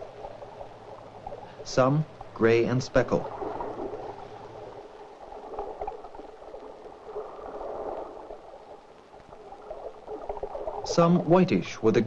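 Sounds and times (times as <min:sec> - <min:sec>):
water bubbling and gurgling: 0:00.0 - 0:12.0.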